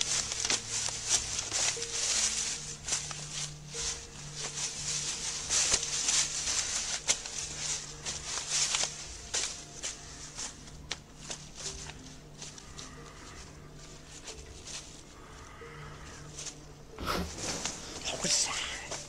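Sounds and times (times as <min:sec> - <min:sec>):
rustling of person walking: 0:00.0 - 0:19.0.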